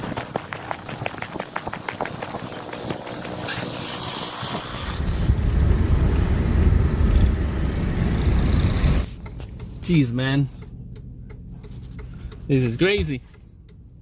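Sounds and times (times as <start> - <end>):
vehicle road noise: 0.0 - 14.0
wind: 0.0 - 14.0.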